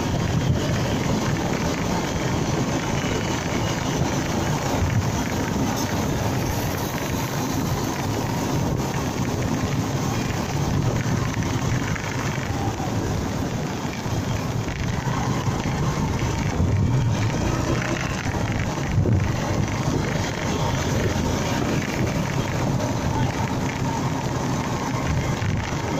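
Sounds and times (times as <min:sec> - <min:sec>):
motorcycle engine: 0:00.0 - 0:25.9
road noise: 0:00.0 - 0:25.9
wind rush over microphone: 0:00.0 - 0:25.9.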